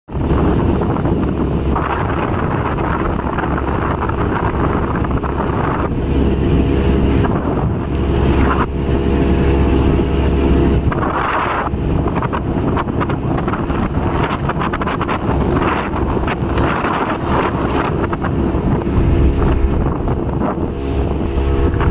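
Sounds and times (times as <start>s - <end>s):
boat engine drone: 0.1s - 21.9s
water rushing past hull: 0.1s - 21.9s
wind buffeting microphone: 0.1s - 21.9s.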